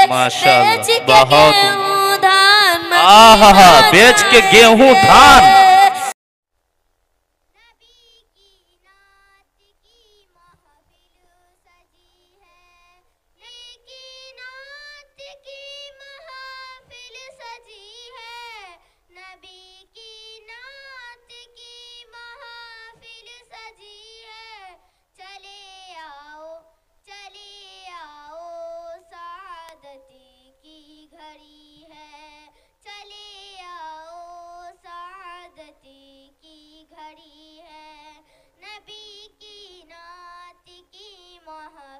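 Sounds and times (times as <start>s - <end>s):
girl singing into a microphone: 0.0s - 3.0s, 3.6s - 6.1s, 7.5s - 41.9s.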